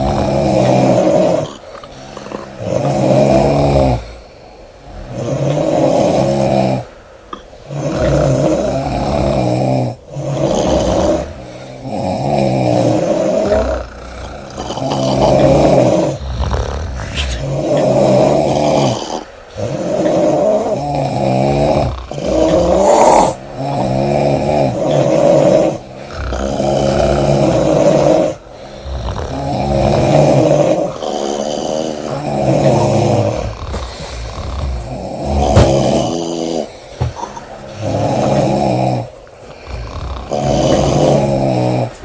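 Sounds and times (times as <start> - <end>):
woman snoring loudly: 0.0 - 6.9, 7.7 - 42.0.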